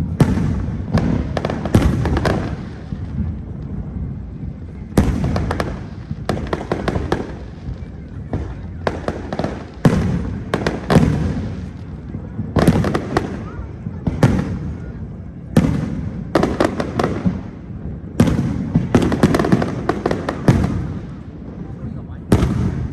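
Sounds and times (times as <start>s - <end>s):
fireworks bursting with sharp bangs: 0.0s - 22.9s
low rumbling echo: 0.0s - 22.9s.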